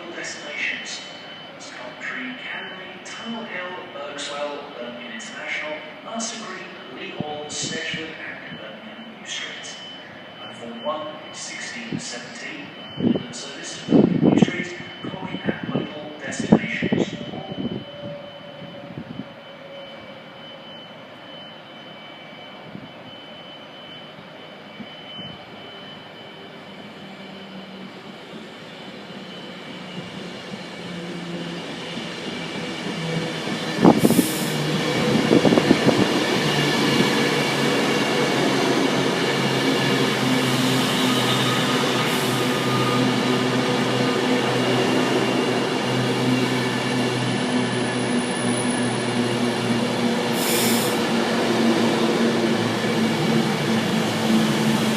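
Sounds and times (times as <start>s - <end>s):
train running: 0.0s - 54.9s
train wheel squeal: 0.0s - 54.9s.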